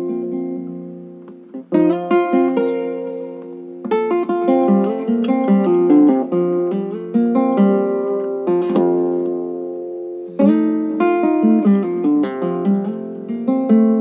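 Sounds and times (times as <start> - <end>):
guitar picking notes: 0.0 - 14.0.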